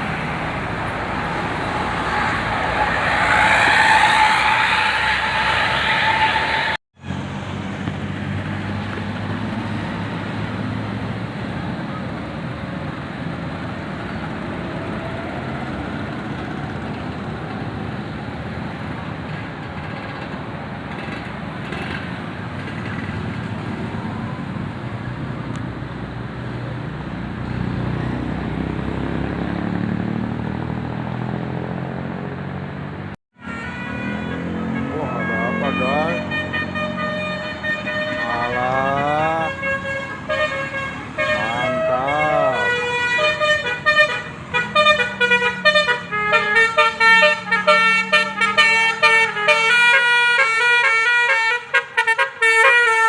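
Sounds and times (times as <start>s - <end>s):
heavy vehicle engine: 0.0s - 51.2s
vehicles passing: 0.0s - 53.0s.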